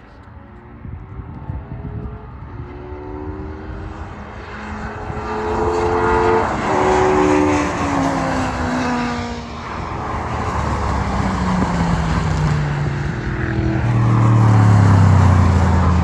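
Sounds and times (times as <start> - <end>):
racing car engine accelerating: 1.6 - 16.0.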